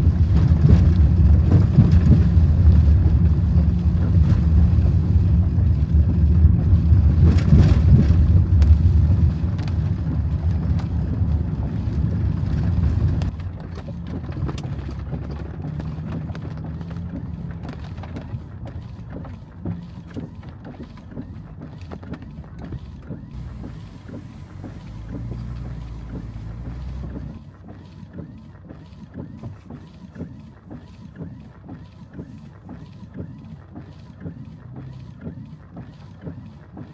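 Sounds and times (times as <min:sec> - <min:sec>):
vehicle engine rumble: 0:00.0 - 0:28.4, 0:32.6 - 0:36.9.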